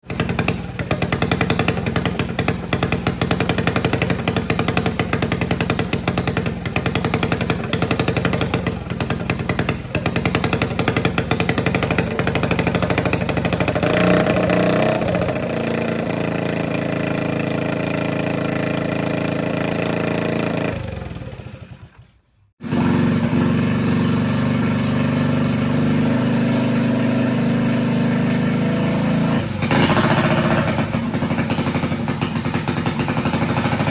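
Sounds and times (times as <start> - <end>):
mini bike engine running: 0.0 - 22.0, 22.6 - 33.9.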